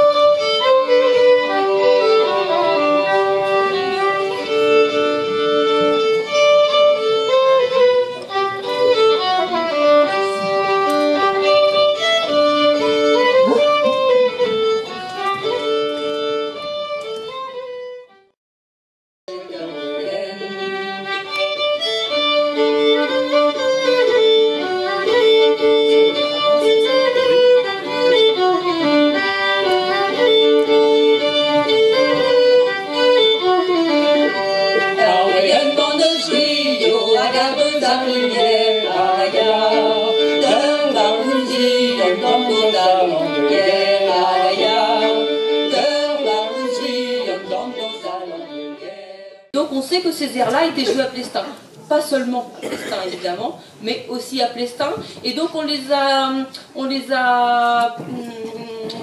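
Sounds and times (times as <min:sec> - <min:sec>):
violins playing a folk tune: 0:00.0 - 0:18.4, 0:19.3 - 0:49.5.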